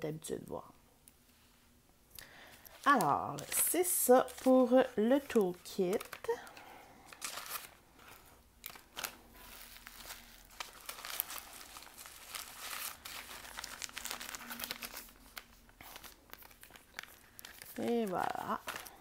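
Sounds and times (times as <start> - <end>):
plastic bags crinkling: 2.6 - 19.0.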